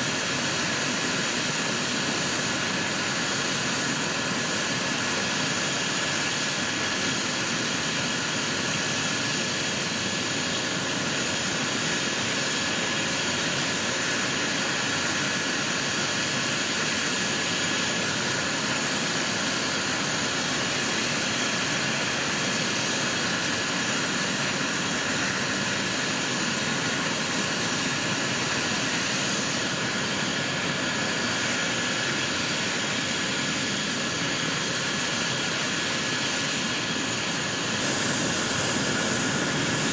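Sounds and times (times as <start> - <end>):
helicopter turbine engine whine: 0.0 - 39.9.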